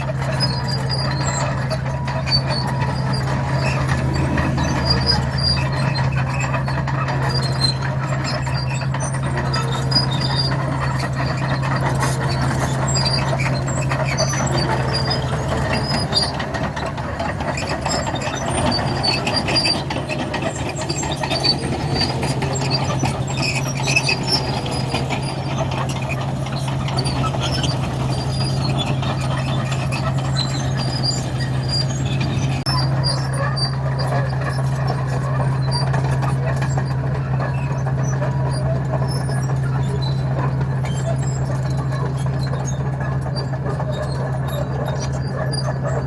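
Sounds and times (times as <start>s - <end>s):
bulldozer diesel engine running: 0.0s - 46.0s
steel tracks squealing: 0.0s - 46.0s.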